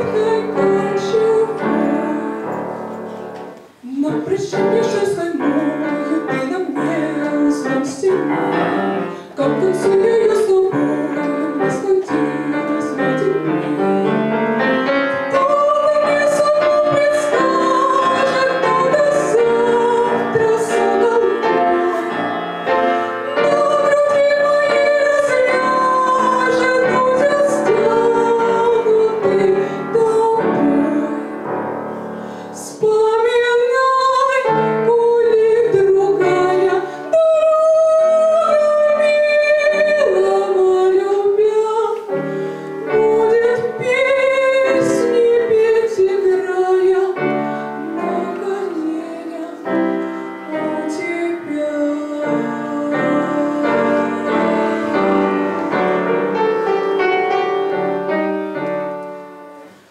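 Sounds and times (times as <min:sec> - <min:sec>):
grand piano: 0:00.0 - 0:59.9
woman singing classical-style: 0:00.0 - 0:59.9.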